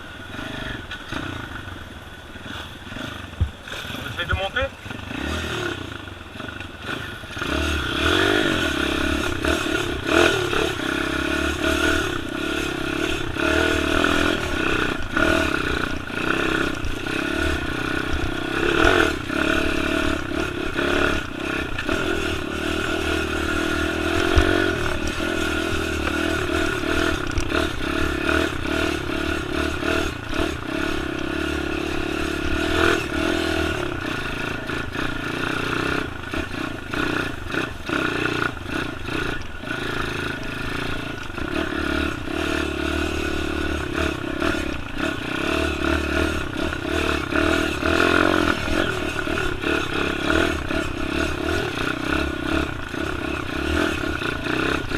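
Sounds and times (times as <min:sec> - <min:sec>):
small motorbike engine revving: 0:00.0 - 0:54.9.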